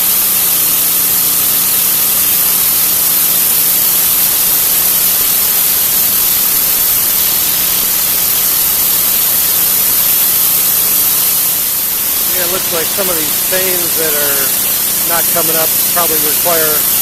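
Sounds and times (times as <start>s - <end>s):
pressure washer machine hum: 0.0s - 17.0s
water jet hissing on concrete: 0.0s - 17.0s.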